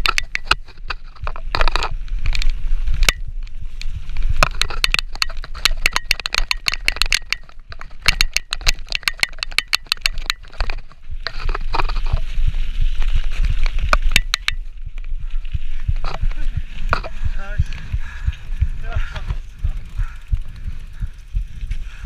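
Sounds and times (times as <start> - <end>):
bike chain and frame rattling: 0.0 - 22.0
tyres rolling over stony track: 0.0 - 22.0
wind rumble on microphone: 0.0 - 22.0.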